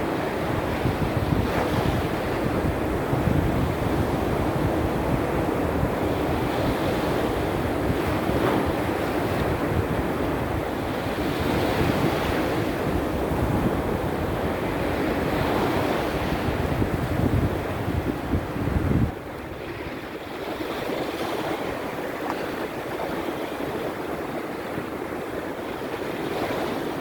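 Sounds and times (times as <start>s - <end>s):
sea surf breaking onshore: 0.0s - 27.0s
wind buffeting microphone: 0.0s - 27.0s.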